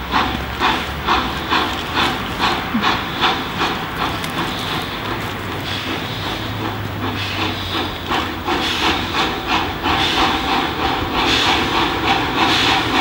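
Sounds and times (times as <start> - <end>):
steam hissing: 0.0 - 13.0
steam locomotive exhaust chuffs: 0.0 - 13.0.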